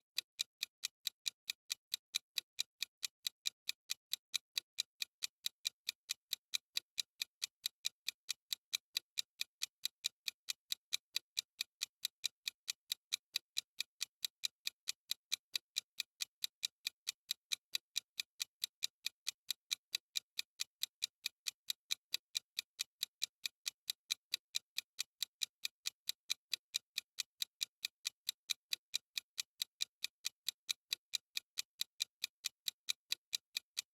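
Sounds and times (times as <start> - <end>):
timer ticking: 0.0 - 33.9.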